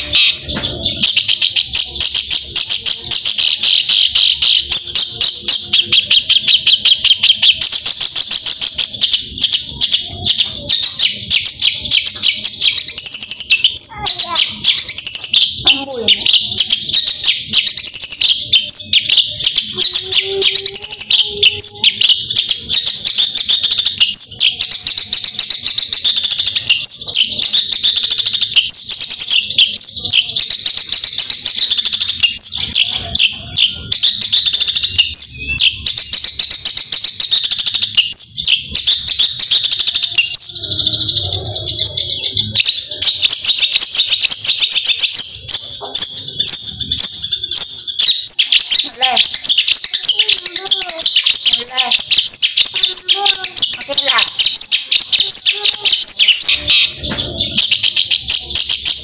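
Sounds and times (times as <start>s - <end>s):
shrike singing high chattering notes: 0.0s - 27.8s, 37.9s - 59.0s.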